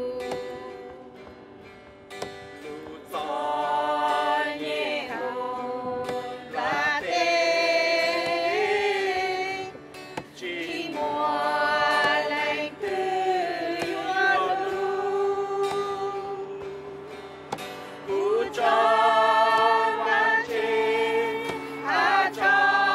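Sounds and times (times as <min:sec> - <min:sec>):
voices singing a hymn: 0:00.0 - 0:01.4, 0:02.4 - 0:22.9.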